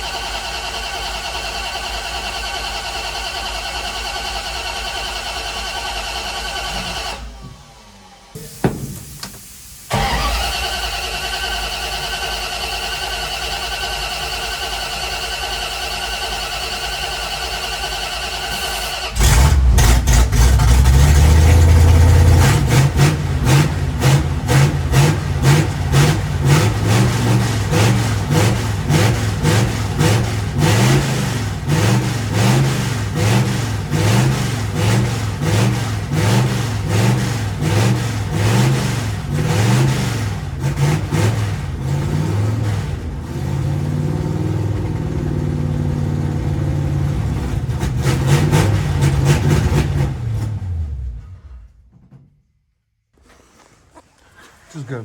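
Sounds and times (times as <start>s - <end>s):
truck engine revving: 0.0s - 51.7s.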